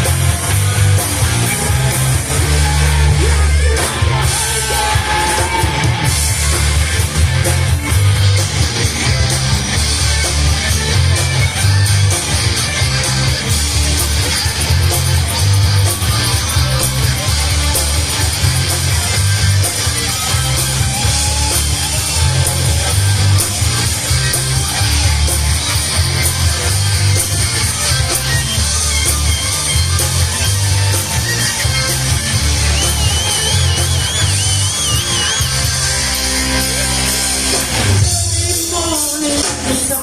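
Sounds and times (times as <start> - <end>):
hard rock band playing: 0.0 - 40.0.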